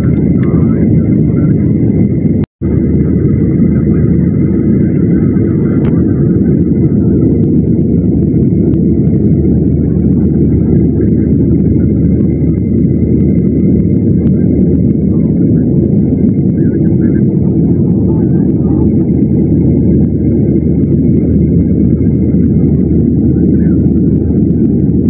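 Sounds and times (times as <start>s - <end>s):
airliner cabin engine rumble: 0.0s - 25.0s
faint high whine: 0.0s - 25.0s.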